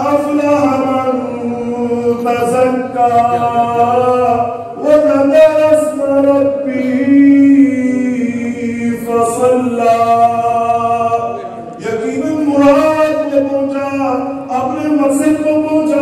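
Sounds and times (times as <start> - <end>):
man chanting melodic recitation: 0.0 - 16.0.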